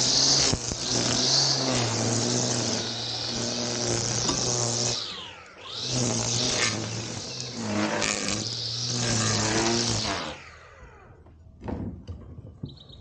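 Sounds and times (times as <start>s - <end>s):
lawn equipment running: 0.0s - 11.2s.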